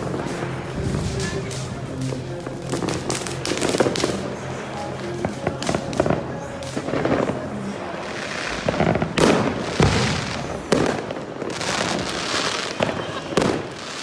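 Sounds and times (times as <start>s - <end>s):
fireworks bangs and crackling: 0.0s - 14.0s
heavy firework blasts: 0.0s - 14.0s.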